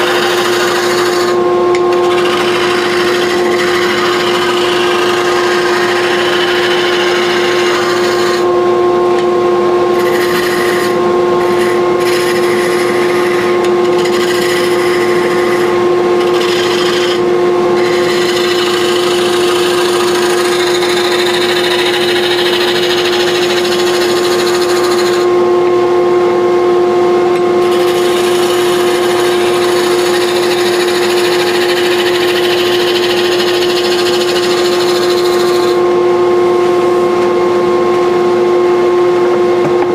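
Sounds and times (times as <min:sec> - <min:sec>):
turning tool cutting wood: 0:00.0 - 0:08.5, 0:09.9 - 0:25.3, 0:27.6 - 0:35.9
wood lathe motor hum: 0:00.0 - 0:25.7, 0:27.4 - 0:37.4.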